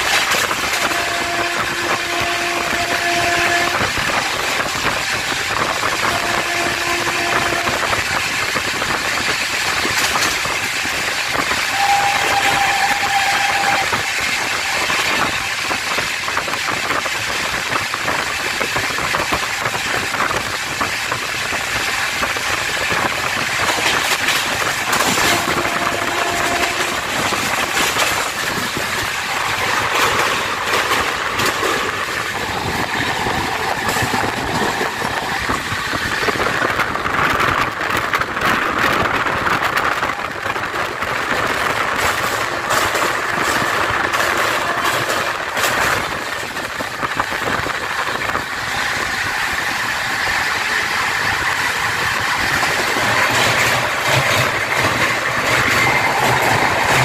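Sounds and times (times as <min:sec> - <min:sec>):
train wheels clicking on rails: 0:00.0 - 0:57.0
train wind rush: 0:00.0 - 0:57.0.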